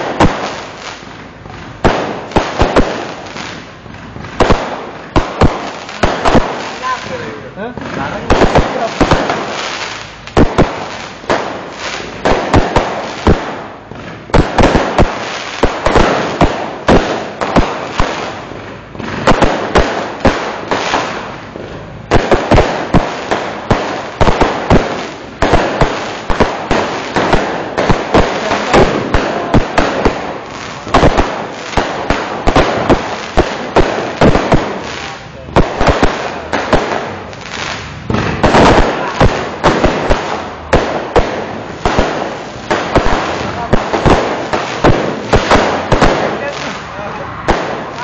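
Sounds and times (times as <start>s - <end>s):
fireworks bangs: 0.0s - 48.0s
fireworks crackling: 0.0s - 48.0s.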